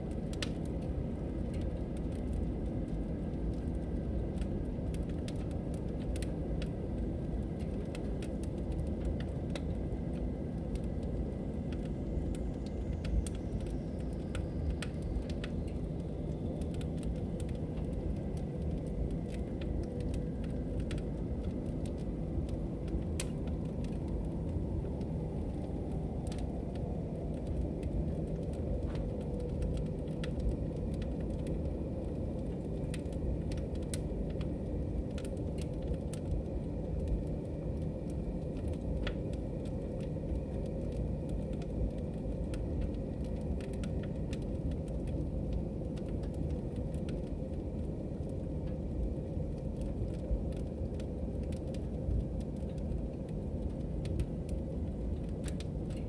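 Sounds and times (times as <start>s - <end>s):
log fire crackling: 0.0s - 56.0s.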